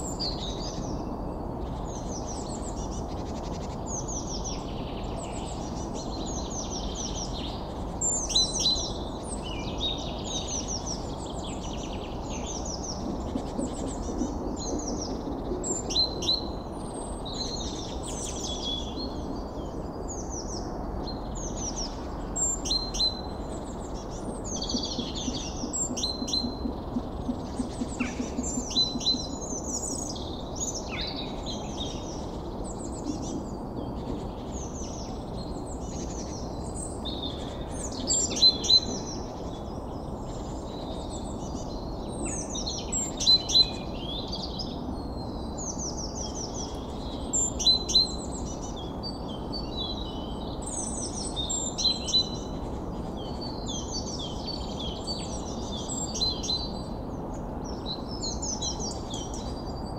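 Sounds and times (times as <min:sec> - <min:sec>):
low background noise: 0:00.0 - 0:59.9
small birds chirping: 0:00.0 - 0:59.9.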